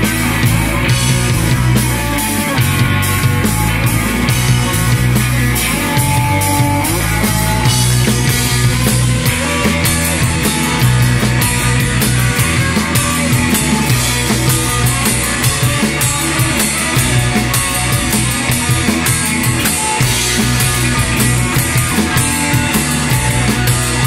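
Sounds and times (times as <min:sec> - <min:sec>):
drum kit beat: 0:00.0 - 0:24.0
electric bass: 0:00.0 - 0:24.0
electric guitar: 0:00.0 - 0:24.0
rock band playing: 0:00.0 - 0:24.0.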